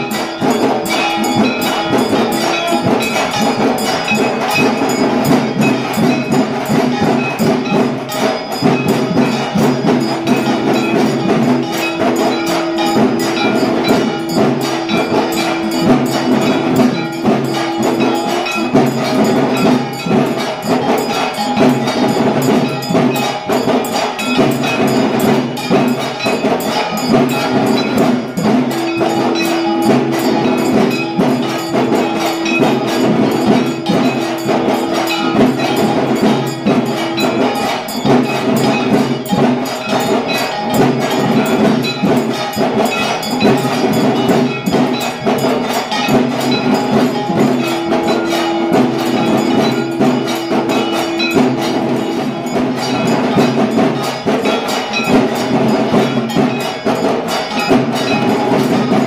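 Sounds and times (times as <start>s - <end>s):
bells and percussion clanging: 0.0s - 59.0s.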